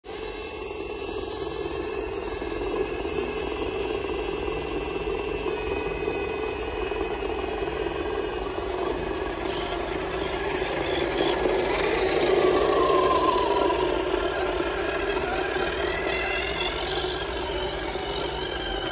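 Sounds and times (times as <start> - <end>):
toy truck electric motors whining: 0.1 - 18.9.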